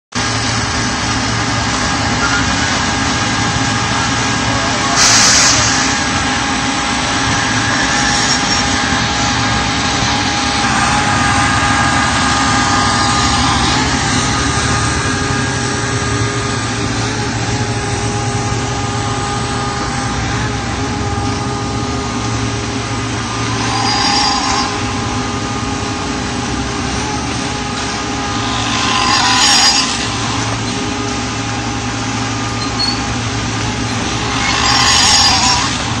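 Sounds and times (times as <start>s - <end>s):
concrete pump machine droning: 0.1s - 36.0s
hissing surge: 0.4s - 36.0s.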